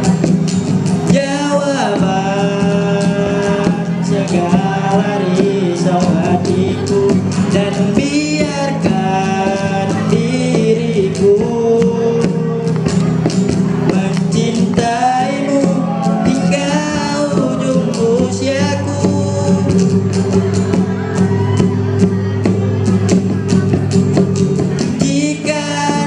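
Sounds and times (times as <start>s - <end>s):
cajon beat: 0.0s - 26.0s
strummed acoustic guitar: 0.0s - 26.0s
boys singing into microphones: 0.9s - 21.1s, 24.8s - 26.0s.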